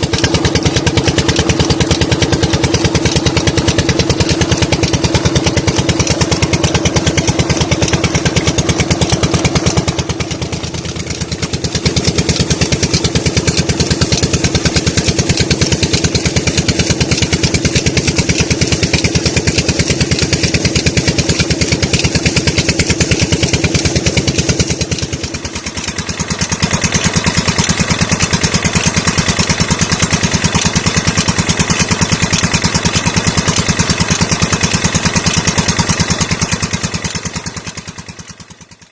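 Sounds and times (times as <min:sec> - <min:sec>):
diesel engine exhaust thumps: 0:00.0 - 0:38.9.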